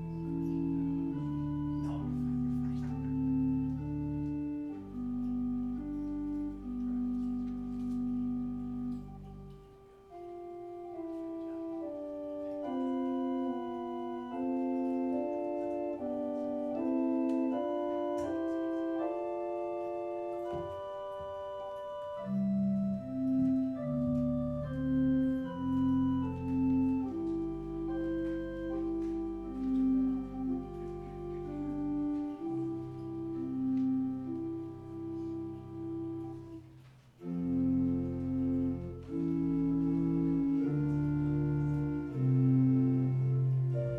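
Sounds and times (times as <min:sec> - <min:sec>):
church organ chords and melody: 0:00.0 - 0:43.9
deep organ pedal bass: 0:00.0 - 0:43.9.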